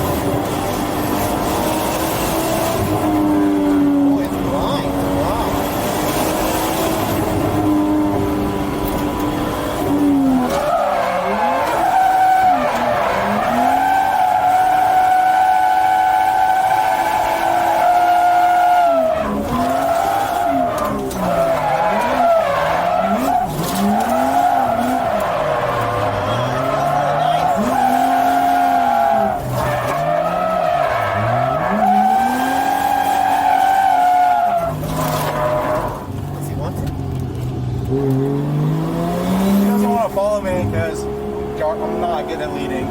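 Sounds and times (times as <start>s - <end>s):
car engine revving hard: 0.0s - 36.1s, 37.8s - 42.9s
tyres skidding: 0.0s - 42.9s.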